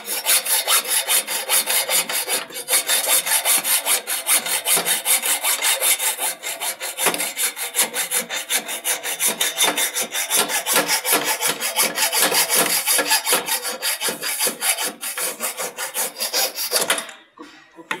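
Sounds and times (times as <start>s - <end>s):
hacksaw rasping strokes: 0.0s - 17.2s.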